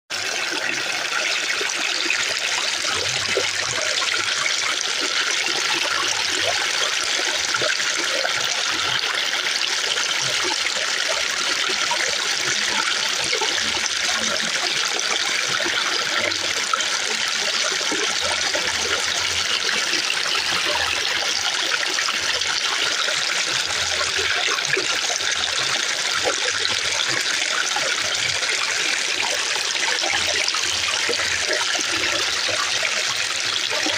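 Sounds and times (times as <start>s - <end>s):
fountain water splashing: 0.2s - 33.9s.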